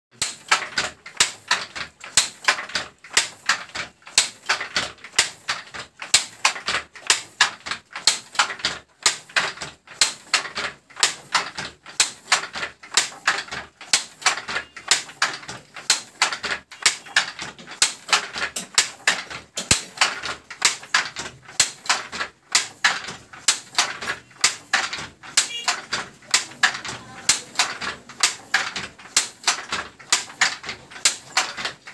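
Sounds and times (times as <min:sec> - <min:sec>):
wooden handloom clacking: 0:00.1 - 0:31.9.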